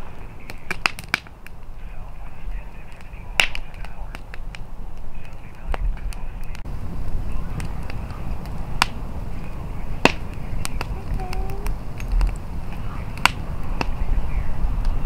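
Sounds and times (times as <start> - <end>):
fire crackling and popping: 0.0 - 15.0
wind rumble on microphone: 0.0 - 15.0.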